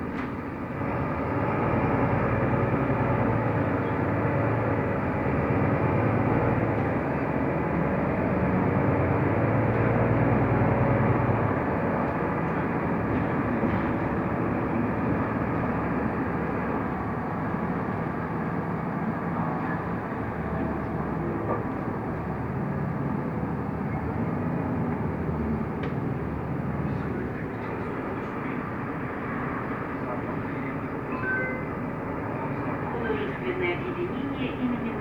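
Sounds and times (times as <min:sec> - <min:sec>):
bus engine drone: 0:00.0 - 0:35.0.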